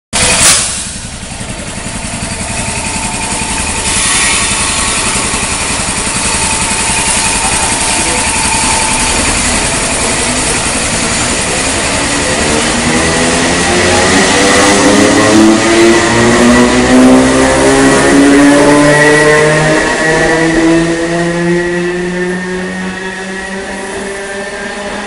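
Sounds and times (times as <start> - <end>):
electric train traction rumble: 0.2 - 25.0.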